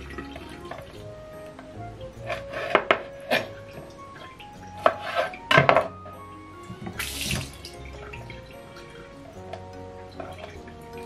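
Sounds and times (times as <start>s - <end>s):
kitchen tap running: 0.0s - 11.0s.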